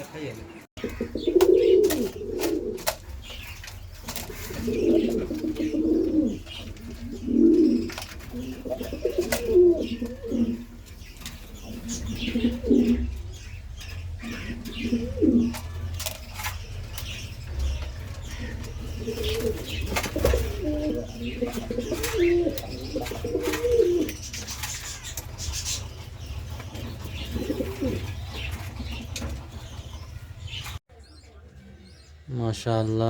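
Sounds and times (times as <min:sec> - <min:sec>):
small birds chirping: 0:00.0 - 0:33.0
pigeons cooing: 0:00.8 - 0:30.8.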